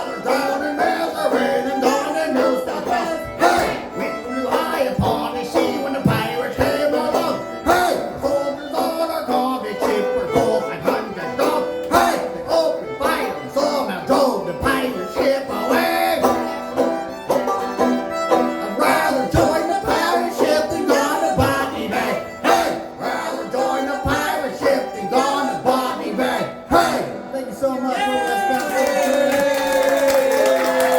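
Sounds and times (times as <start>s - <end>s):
plucked string notes: 0.0s - 27.9s
folk band playing: 0.0s - 28.6s.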